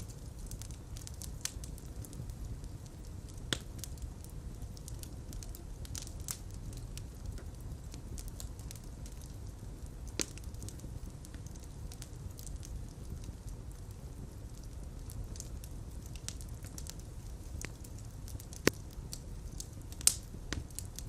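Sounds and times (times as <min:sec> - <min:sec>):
fire crackling in fireplace: 0:00.0 - 0:21.0.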